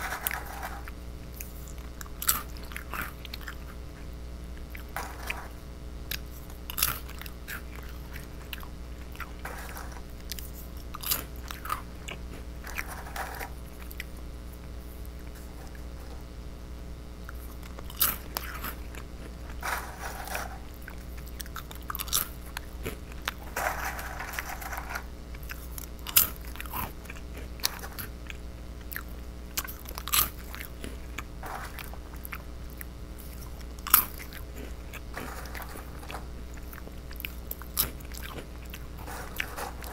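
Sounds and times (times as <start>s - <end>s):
chewing: 0.0s - 16.3s, 17.3s - 23.6s, 25.3s - 39.9s
crackers crunching: 0.0s - 39.9s
steady low hum: 0.0s - 39.9s.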